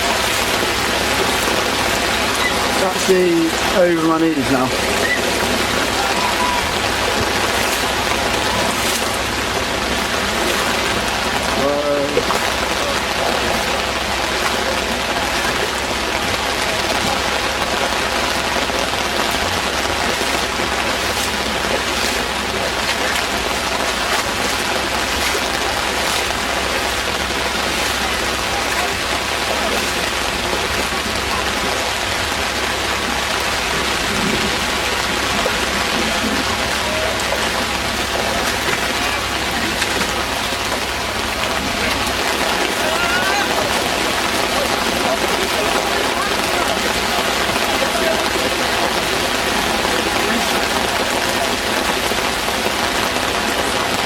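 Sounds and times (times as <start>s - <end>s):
heavy rain: 0.0s - 54.0s
running floodwater: 0.0s - 54.0s.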